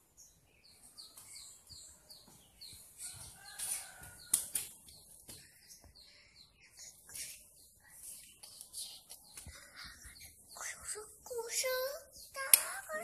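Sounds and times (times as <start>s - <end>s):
small bird chirping: 0.1s - 13.0s.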